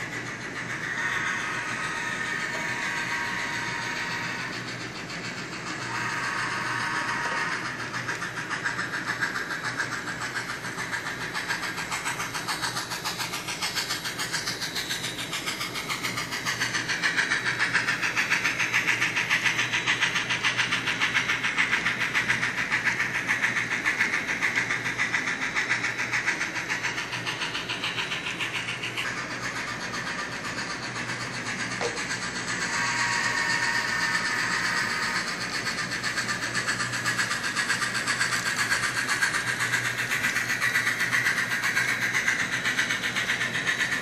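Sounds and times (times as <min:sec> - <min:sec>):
model steam exhaust chuffs: 0:00.0 - 0:44.0
steady low hum: 0:00.0 - 0:44.0.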